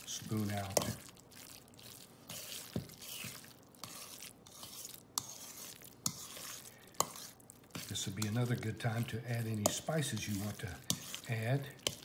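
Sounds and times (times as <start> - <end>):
utensil scraping mixture in bowl: 0.0 - 12.0.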